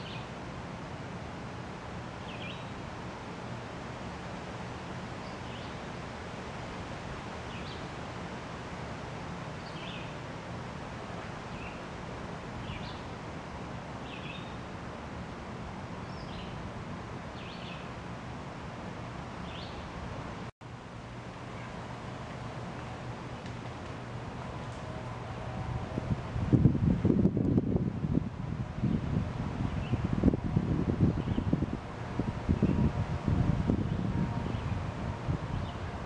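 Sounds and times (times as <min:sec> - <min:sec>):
outdoor background hum: 0:00.0 - 0:36.0.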